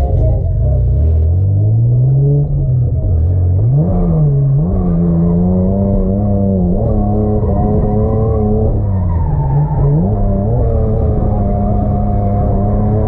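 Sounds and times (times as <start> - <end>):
muffled car engine revving: 0.0 - 13.0
tyres skidding: 0.0 - 13.0.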